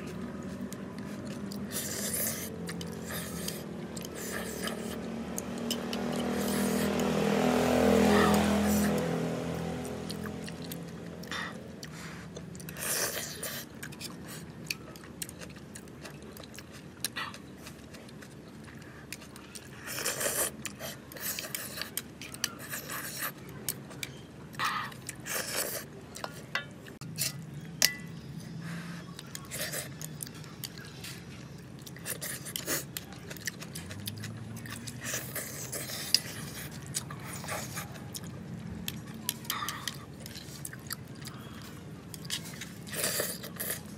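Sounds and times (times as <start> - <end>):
person chewing noodles: 0.0 - 43.9.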